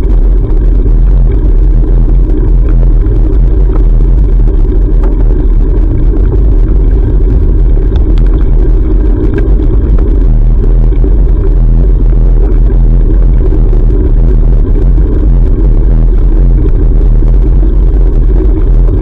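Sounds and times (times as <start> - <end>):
wind buffeting camera microphone: 0.0 - 19.0.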